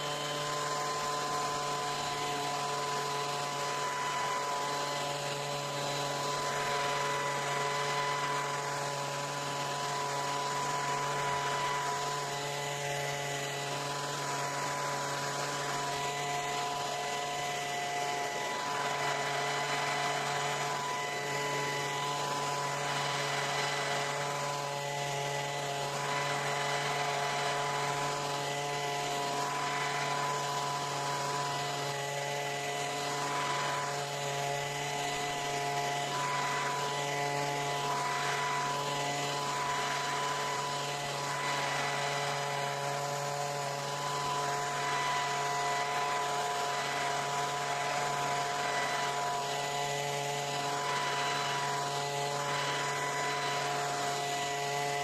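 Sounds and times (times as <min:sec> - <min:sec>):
leaf blower running: 0:00.0 - 0:55.0.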